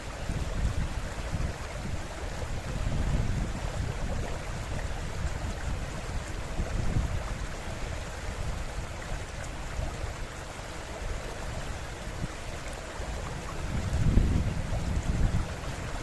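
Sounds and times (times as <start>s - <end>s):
river water running: 0.0s - 16.0s
wind rumble on microphone: 0.0s - 16.0s.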